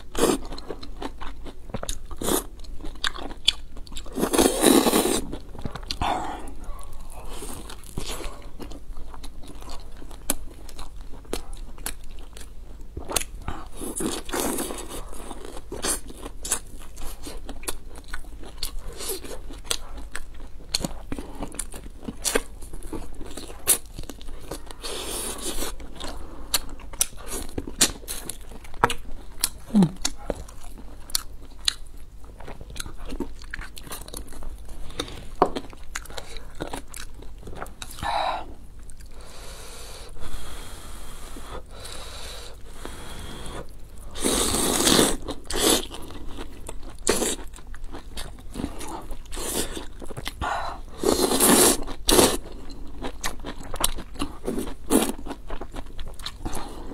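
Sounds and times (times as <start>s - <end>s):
person chewing: 0.0s - 56.9s.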